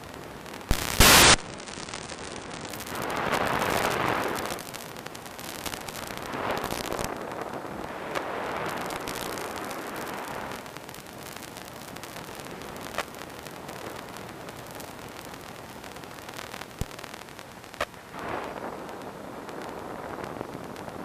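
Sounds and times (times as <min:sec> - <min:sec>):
sharp crackles: 0:00.0 - 0:21.0
steady rushing hiss: 0:00.0 - 0:21.0.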